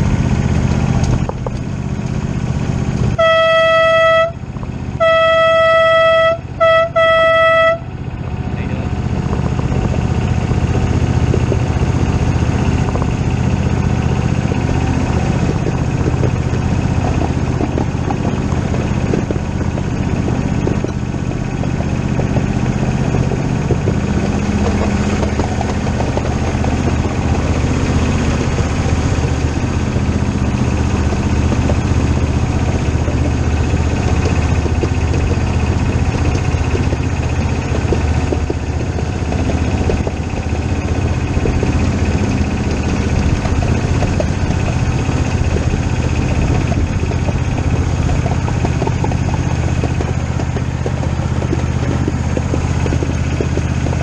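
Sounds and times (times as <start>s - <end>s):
engine running hum: 0.0s - 54.0s.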